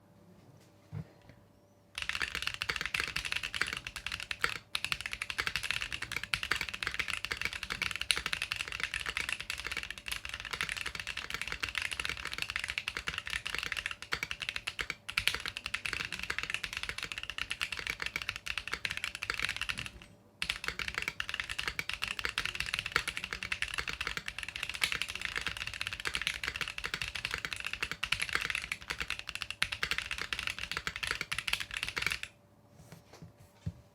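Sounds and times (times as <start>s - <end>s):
mechanical keyboard typing: 2.0s - 32.4s.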